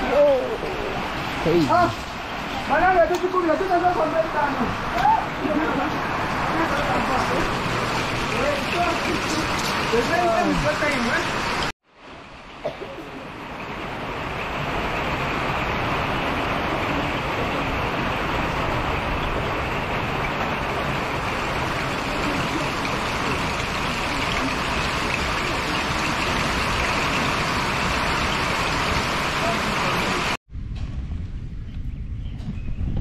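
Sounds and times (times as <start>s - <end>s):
heavy rain on wet paving: 0.0s - 30.4s.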